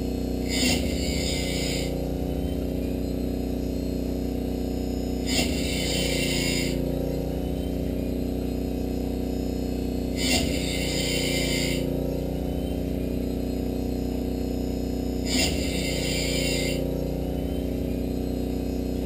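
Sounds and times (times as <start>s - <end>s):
grinding wheel hissing on blade: 0.0s - 19.0s
sharpener motor hum: 0.0s - 19.0s.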